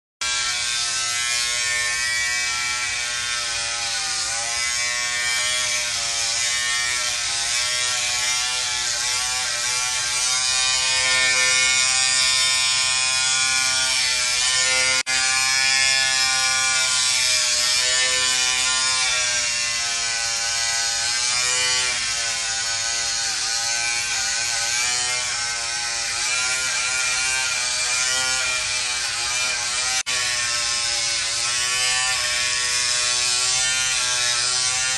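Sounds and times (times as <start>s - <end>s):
electric hair clippers buzzing: 0.2s - 34.9s.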